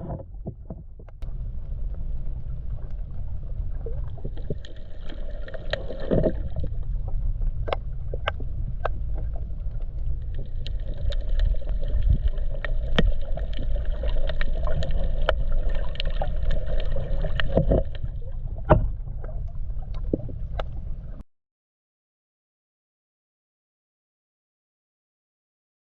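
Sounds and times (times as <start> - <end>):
low water rumble: 0.0 - 21.2
water gurgles: 0.0 - 21.2.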